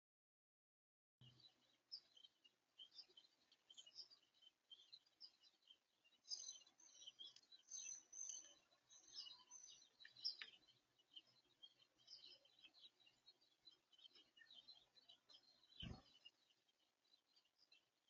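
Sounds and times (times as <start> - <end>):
small birds chirping: 1.2 - 18.0.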